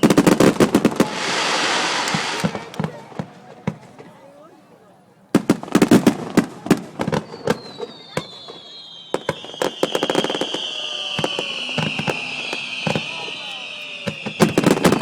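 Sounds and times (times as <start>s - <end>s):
fireworks whistles falling: 0.0s - 3.3s, 5.4s - 15.0s
fireworks bangs: 0.0s - 4.5s, 5.3s - 15.0s.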